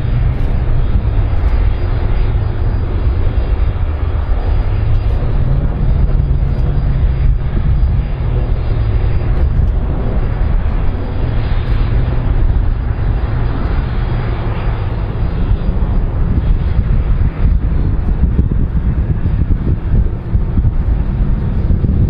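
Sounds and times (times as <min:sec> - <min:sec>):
airplane engine rumble: 0:00.0 - 0:22.0.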